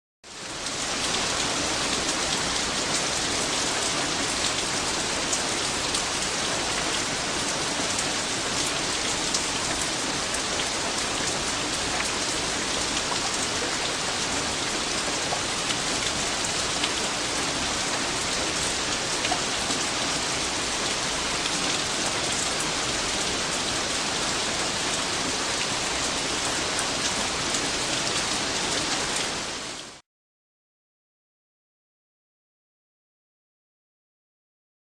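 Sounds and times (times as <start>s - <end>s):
heavy rain: 0.3s - 30.0s.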